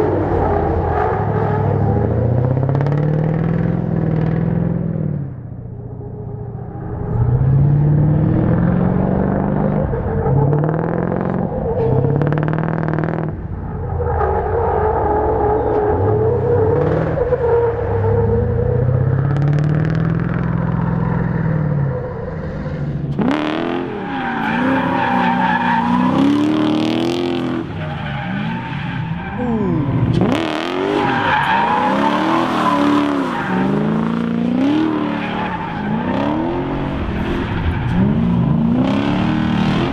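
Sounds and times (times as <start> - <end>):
tyres squealing and skidding: 0.0 - 4.8, 5.7 - 39.9
car engine revving: 0.0 - 39.9.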